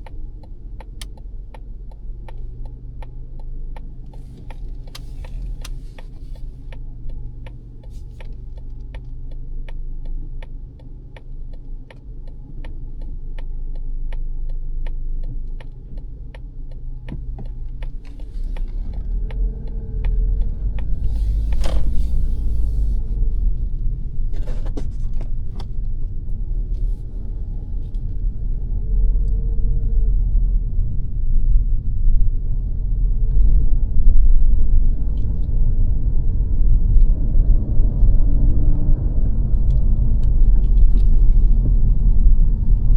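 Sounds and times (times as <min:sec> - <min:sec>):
engine and tyre rumble: 0:00.0 - 0:42.9
turn signal ticking: 0:00.0 - 0:42.9.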